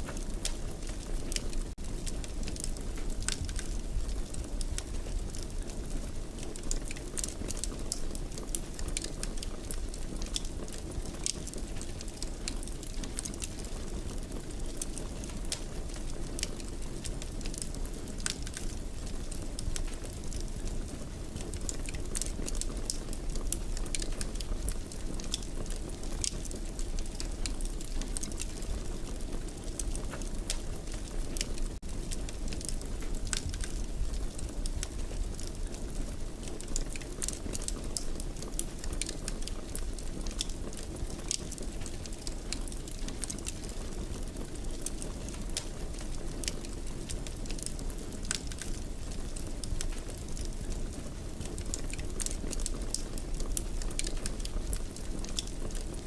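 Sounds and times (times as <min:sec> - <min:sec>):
fire crackles and pops: 0:00.0 - 0:56.0
wood fire rumbling: 0:00.0 - 0:56.0.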